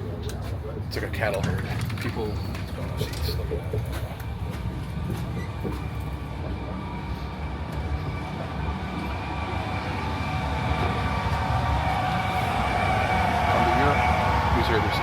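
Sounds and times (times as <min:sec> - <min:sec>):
electric train rumble: 0:00.0 - 0:15.0
train whine: 0:00.0 - 0:15.0.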